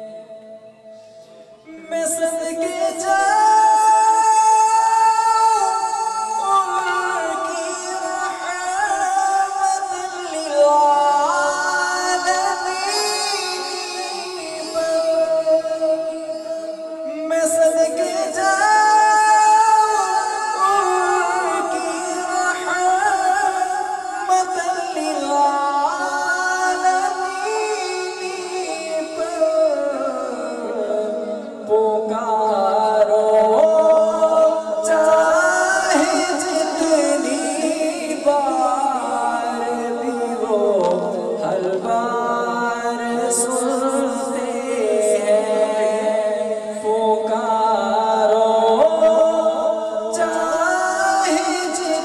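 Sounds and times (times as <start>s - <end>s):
man singing unaccompanied: 0.0s - 52.0s.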